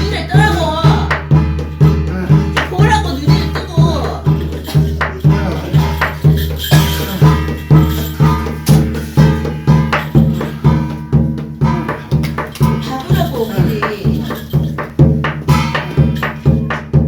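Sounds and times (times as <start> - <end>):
jingling rattling percussion: 0.0 - 17.0
percussion beating: 0.0 - 17.0.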